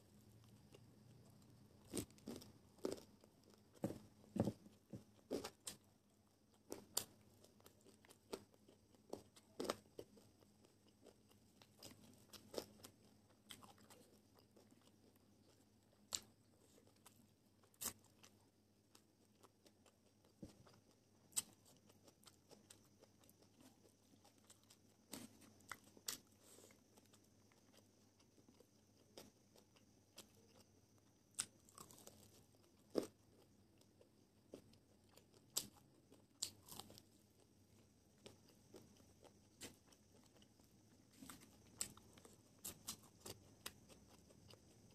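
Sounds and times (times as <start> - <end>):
chewing crispy fried chicken: 0.4 - 44.9.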